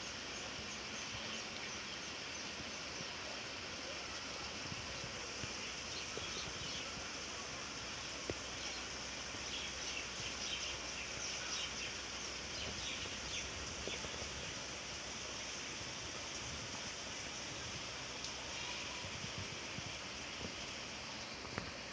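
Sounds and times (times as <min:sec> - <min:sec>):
flowing river water: 0:00.0 - 0:21.9.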